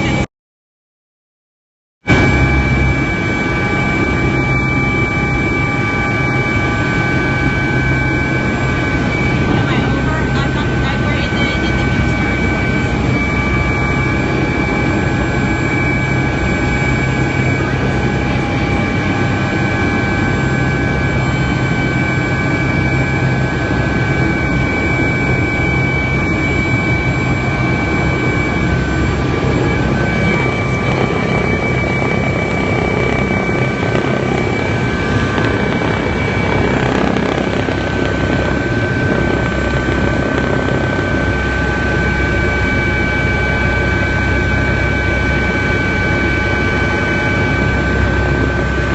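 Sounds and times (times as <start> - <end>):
turbine whining: 0.0 - 0.3, 2.1 - 48.9.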